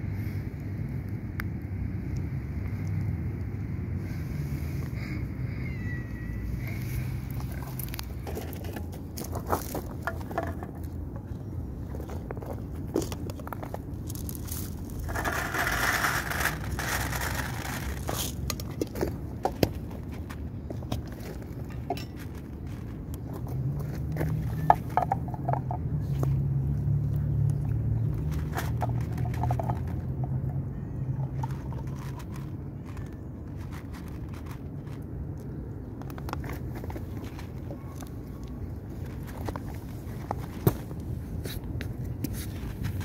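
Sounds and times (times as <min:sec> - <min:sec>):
kitten eating crunches: 0:06.6 - 0:43.0.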